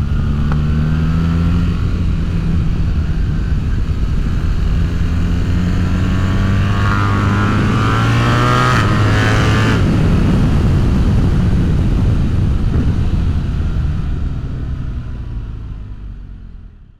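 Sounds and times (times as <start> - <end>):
motorcycle engine revving: 0.0 - 14.2.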